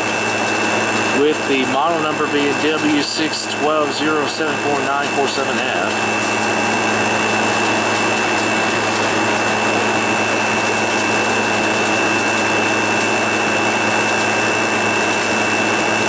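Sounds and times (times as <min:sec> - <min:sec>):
air conditioner whirring: 0:00.0 - 0:16.0
high whine: 0:00.0 - 0:16.0.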